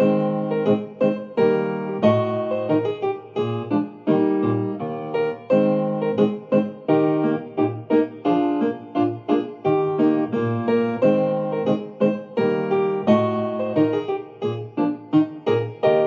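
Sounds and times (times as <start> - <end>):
piano playing chords: 0.0 - 16.0.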